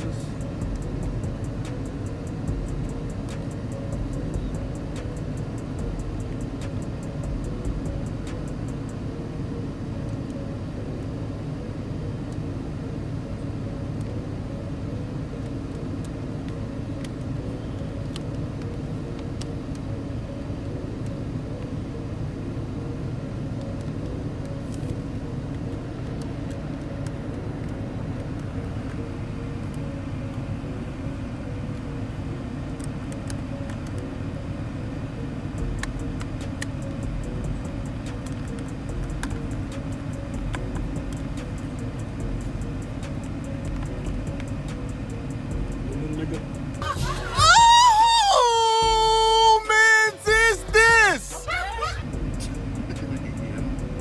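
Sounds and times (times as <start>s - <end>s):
faint steady tone: 0.0s - 46.8s
car engine idling: 0.0s - 54.0s.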